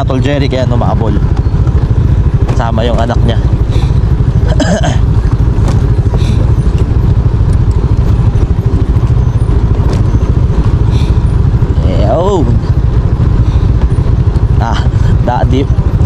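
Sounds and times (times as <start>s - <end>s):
motor scooter engine rumble: 0.0s - 16.0s.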